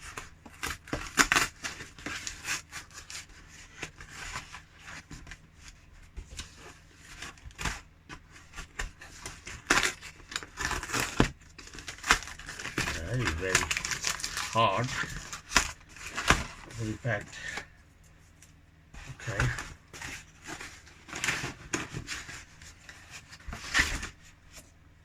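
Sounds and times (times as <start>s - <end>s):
packaging rustling and tearing: 0.0s - 5.3s, 6.4s - 17.3s, 19.0s - 24.3s.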